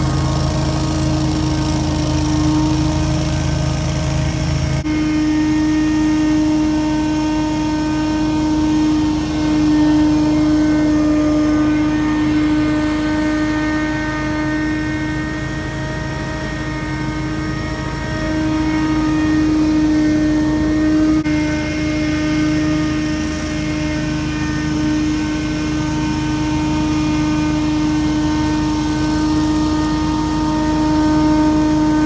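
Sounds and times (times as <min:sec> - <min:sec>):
leaf blower whining: 0:00.0 - 0:32.0.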